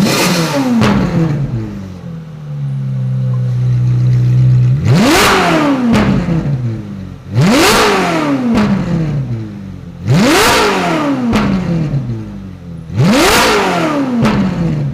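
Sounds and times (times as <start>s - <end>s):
car engine revving: 0.0s - 14.9s
exhaust crack: 0.0s - 14.9s.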